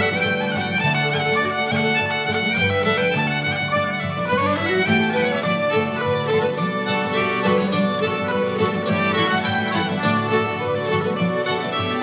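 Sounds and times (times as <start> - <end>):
fiddle playing a reel: 0.0 - 12.0.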